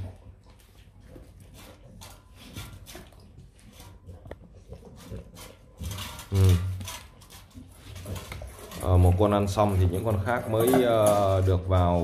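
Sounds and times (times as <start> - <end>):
dog eating from metal bowl: 0.0 - 12.0.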